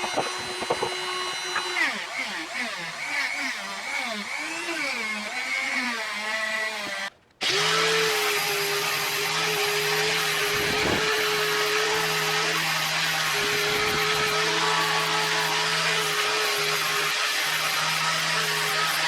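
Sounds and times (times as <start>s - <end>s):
electric drill motor on metal: 0.0s - 19.0s.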